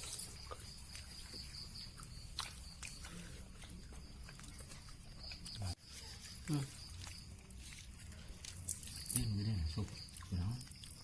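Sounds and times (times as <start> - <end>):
insects chirring: 0.0 - 11.0
person chewing crunchy food: 0.0 - 11.0.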